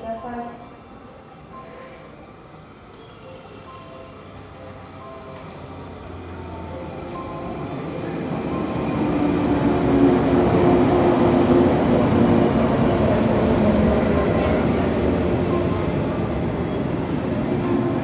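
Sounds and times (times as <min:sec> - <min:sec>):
electric train motors humming: 0:00.8 - 0:18.0.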